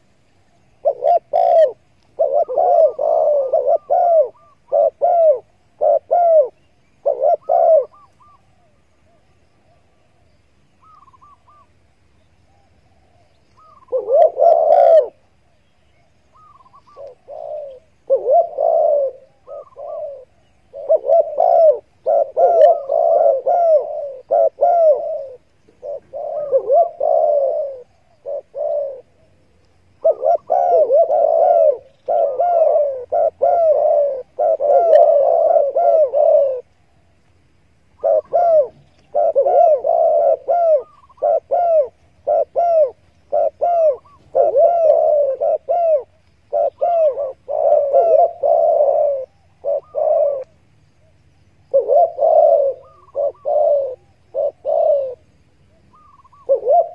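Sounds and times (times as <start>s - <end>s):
doves cooing: 0.0s - 56.9s.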